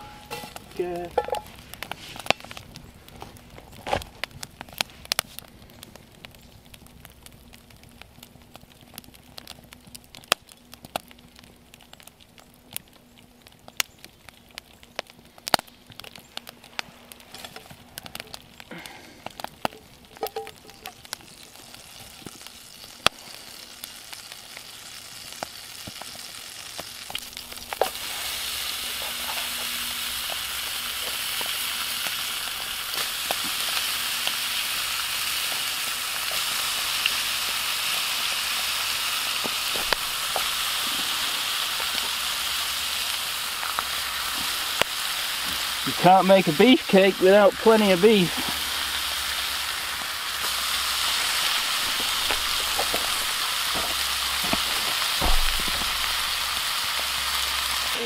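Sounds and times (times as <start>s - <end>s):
butter sizzling in a pan: 0.0s - 58.0s
campfire pops and crackles: 0.0s - 58.0s
steak frying hiss: 0.0s - 58.0s.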